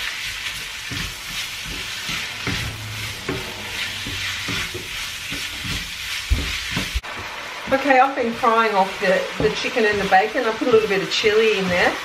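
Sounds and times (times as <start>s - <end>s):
wooden spoon scraping pan: 0.0s - 7.1s, 7.7s - 12.0s
food sizzling in oil: 0.0s - 12.0s.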